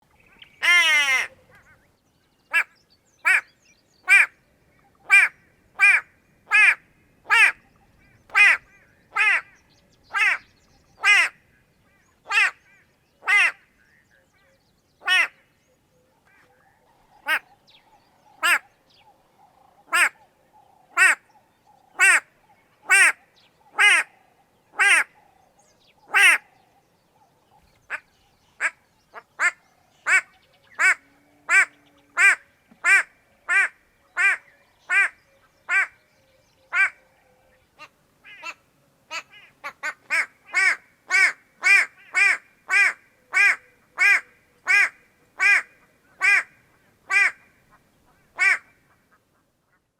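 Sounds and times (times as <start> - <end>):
bird calls: 0.0 - 49.9.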